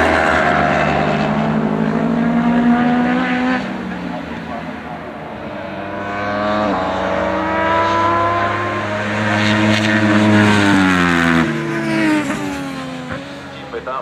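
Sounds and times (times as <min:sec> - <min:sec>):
motorcycle engines revving hard: 0:00.0 - 0:14.0.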